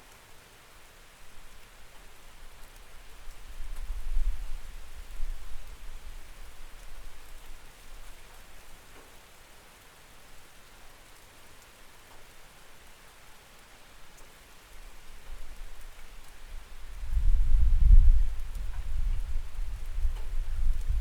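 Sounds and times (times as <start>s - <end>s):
rain on a window: 0.0s - 21.0s.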